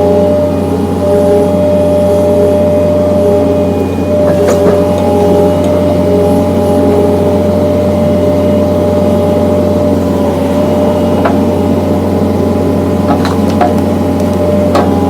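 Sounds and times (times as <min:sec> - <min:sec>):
high whine: 0:00.0 - 0:15.0
skid steer engine running: 0:00.0 - 0:15.0.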